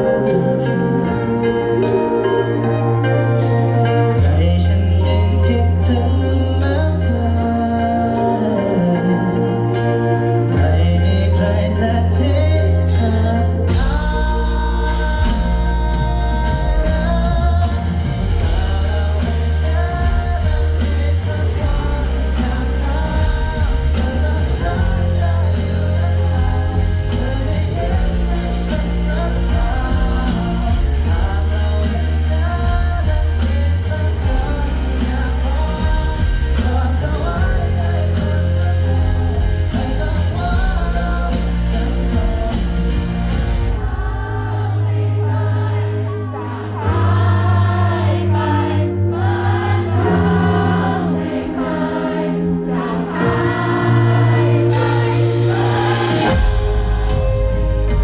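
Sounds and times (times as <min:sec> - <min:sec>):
heavy bass line: 0:00.0 - 0:58.0
lead vocal singing: 0:00.0 - 0:58.0
pop-rock band playing live: 0:00.0 - 0:58.0.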